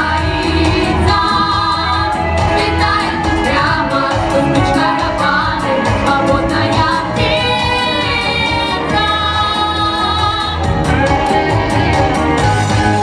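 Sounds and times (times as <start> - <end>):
backing track with steady beat: 0.0 - 13.0
girls singing pop song: 0.0 - 13.0.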